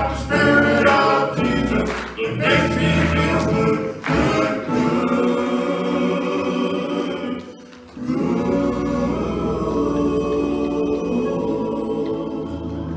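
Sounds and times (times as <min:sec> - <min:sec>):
gospel choir singing: 0:00.0 - 0:12.9.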